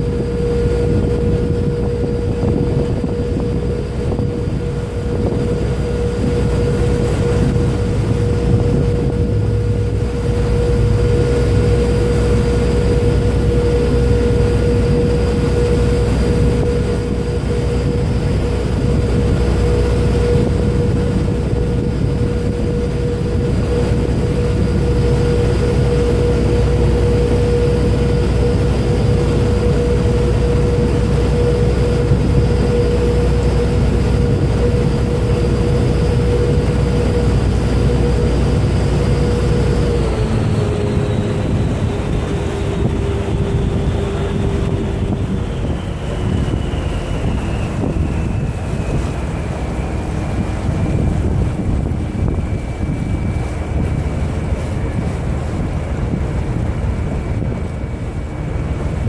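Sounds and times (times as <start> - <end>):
boat diesel engine humming: 0.0 - 59.0.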